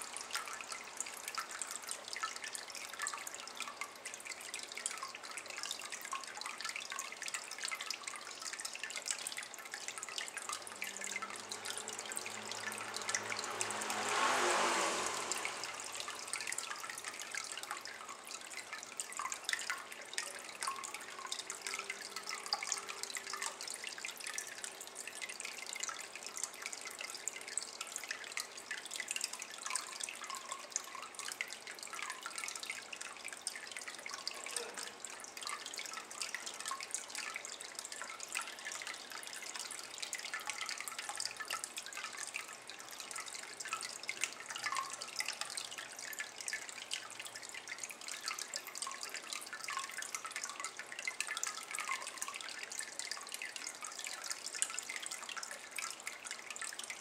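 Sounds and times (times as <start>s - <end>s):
water trickling into basin: 0.0s - 57.0s.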